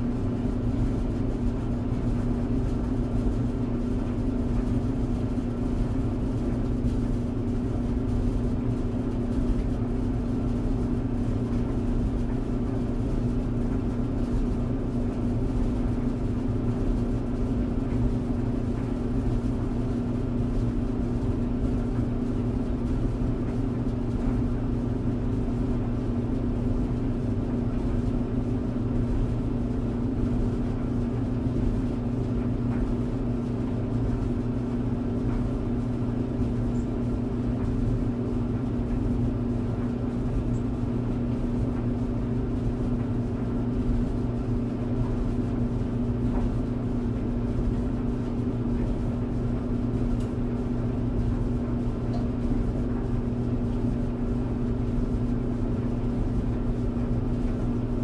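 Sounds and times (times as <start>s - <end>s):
tumble dryer humming: 0.0s - 58.0s.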